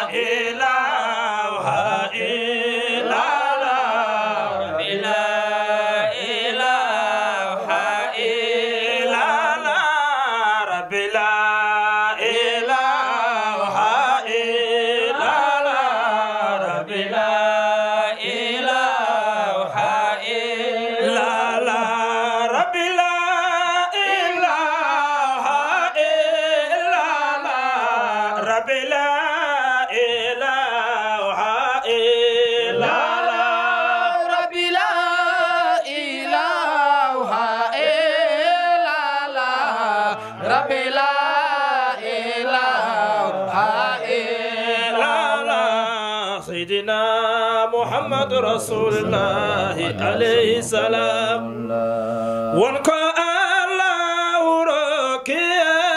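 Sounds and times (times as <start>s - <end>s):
lead man singing ornamented melody: 0.0s - 55.9s
men chanting: 0.0s - 55.9s.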